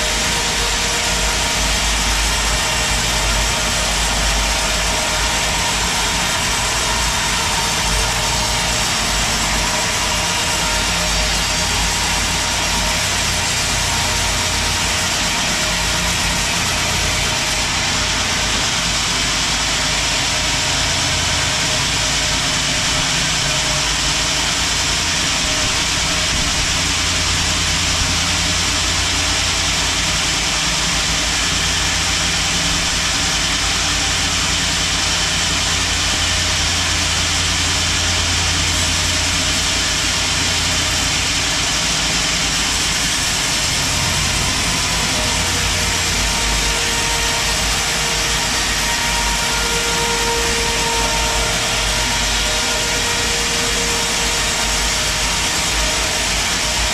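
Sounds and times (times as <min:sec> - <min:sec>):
band sawmill running: 0:00.0 - 0:56.9.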